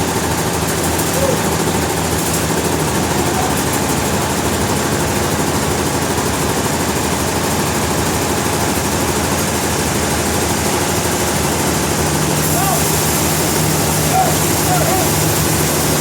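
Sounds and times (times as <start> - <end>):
sawmill machinery drone: 0.0 - 16.0.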